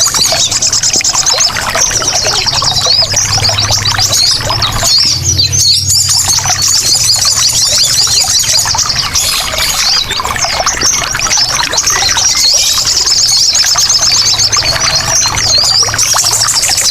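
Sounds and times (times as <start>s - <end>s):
birds chattering and chirping: 0.0s - 16.9s
water trickling: 0.0s - 16.9s.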